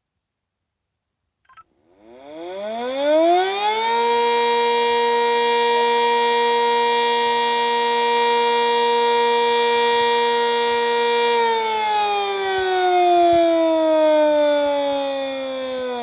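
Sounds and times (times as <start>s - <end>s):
warning siren steady tone: 1.5s - 16.0s.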